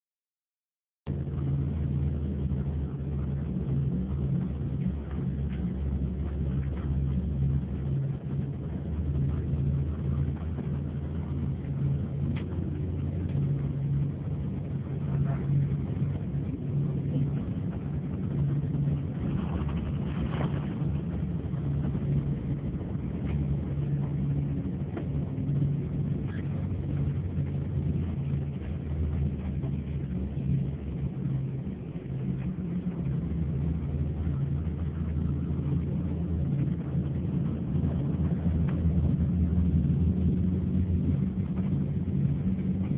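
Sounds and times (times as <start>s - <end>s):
bus engine drone and road noise: 1.1s - 42.9s.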